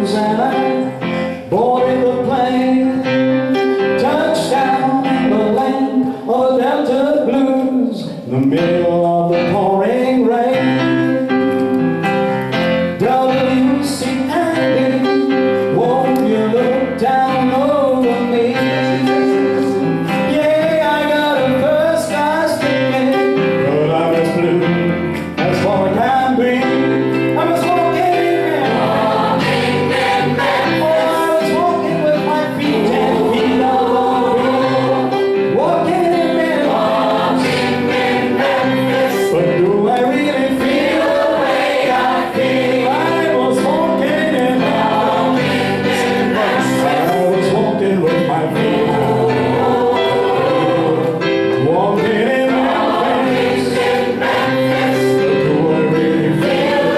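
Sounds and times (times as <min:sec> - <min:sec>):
gospel choir singing: 0:00.0 - 0:56.9
instrumental accompaniment: 0:00.0 - 0:56.9.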